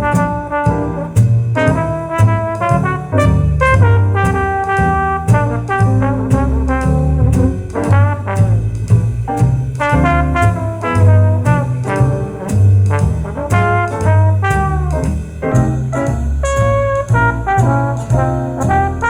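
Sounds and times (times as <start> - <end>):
jazz over loudspeaker: 0.0 - 19.0.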